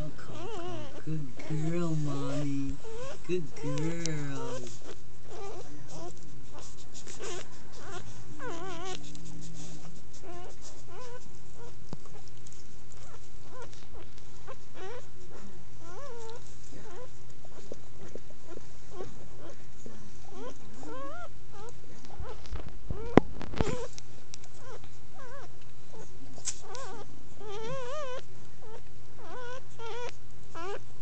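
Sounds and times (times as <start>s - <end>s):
puppies squeaking and whimpering: 0.0s - 31.0s
steady low hum: 0.0s - 31.0s.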